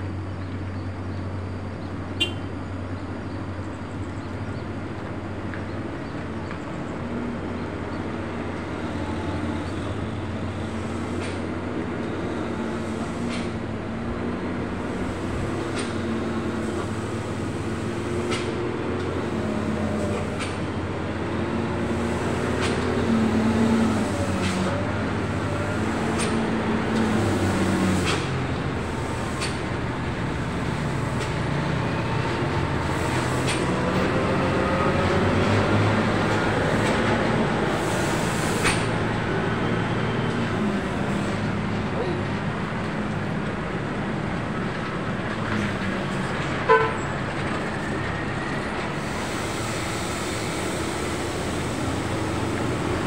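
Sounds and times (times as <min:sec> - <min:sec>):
diesel truck engines: 0:00.0 - 0:53.0
steady traffic noise: 0:00.0 - 0:53.0.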